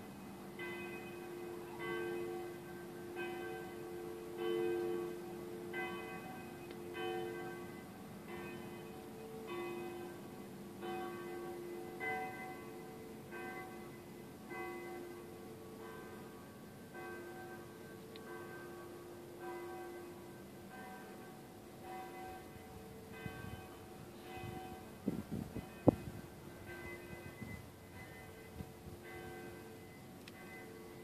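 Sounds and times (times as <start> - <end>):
bells ringing: 0.0 - 31.0.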